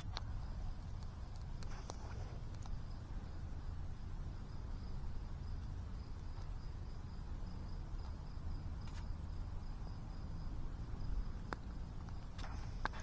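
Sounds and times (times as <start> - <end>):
cricket chirping: 0.0 - 13.0
low steady rumble: 0.0 - 13.0.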